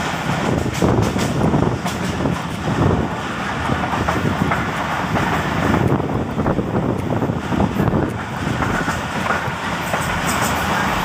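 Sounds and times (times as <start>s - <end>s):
irregular track clicks: 0.0s - 11.0s
train wheels rumbling on rails: 0.0s - 11.0s.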